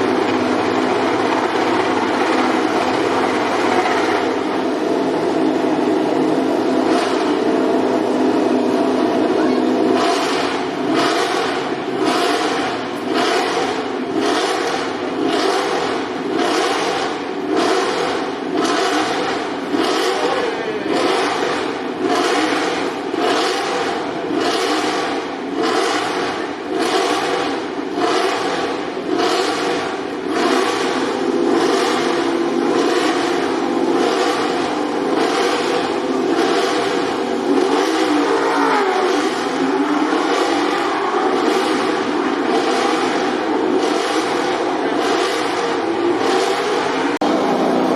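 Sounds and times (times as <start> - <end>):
racing motorcycle engine: 0.0 - 47.9.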